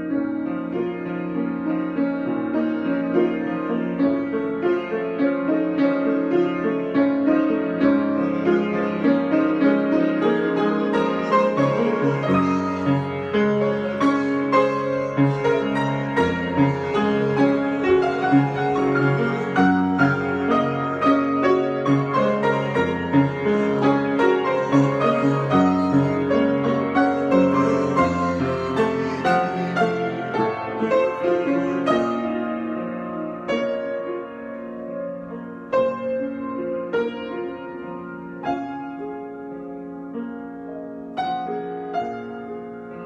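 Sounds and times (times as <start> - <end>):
solo piano improvisation: 0.0 - 43.0.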